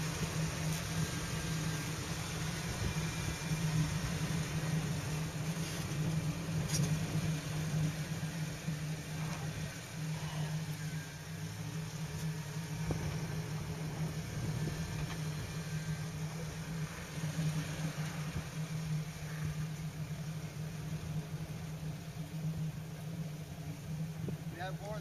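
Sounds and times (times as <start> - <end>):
car engine at low revs: 0.0 - 25.0.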